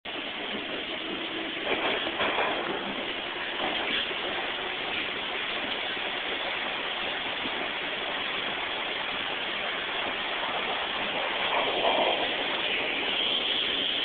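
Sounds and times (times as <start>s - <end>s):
subway train wheel and track noise: 0.1s - 14.0s.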